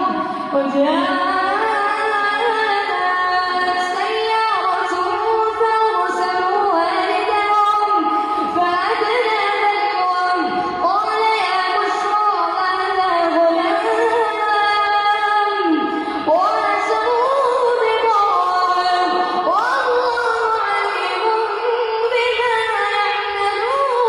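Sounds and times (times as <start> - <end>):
high voice melodic recitation: 0.0 - 24.0.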